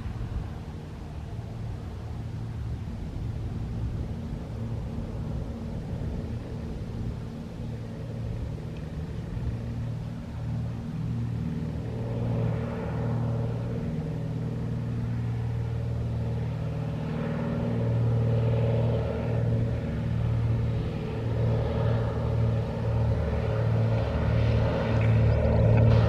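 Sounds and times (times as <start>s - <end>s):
aircraft engine humming: 0.0s - 26.0s.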